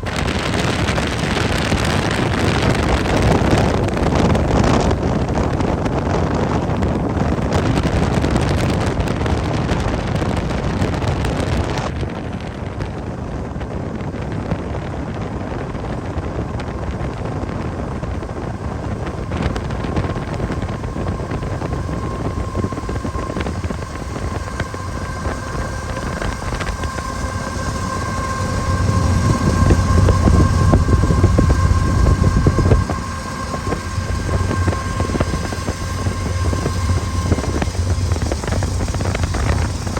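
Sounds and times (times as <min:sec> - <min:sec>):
faint steady tones: 0:00.0 - 0:39.9
heavy low rumble: 0:00.0 - 0:39.9
vehicle rumble: 0:00.0 - 0:39.9
wind buffeting microphone: 0:00.0 - 0:39.9.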